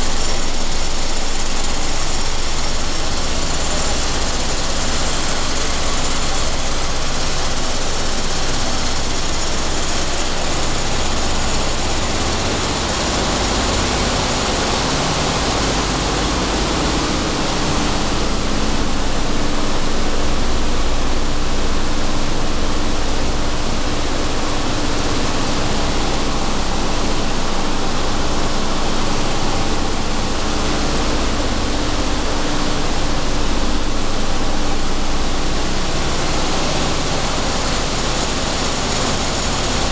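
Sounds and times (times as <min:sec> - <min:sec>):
seed processing machinery running: 0:00.0 - 0:39.9
steady low hum: 0:00.0 - 0:39.9.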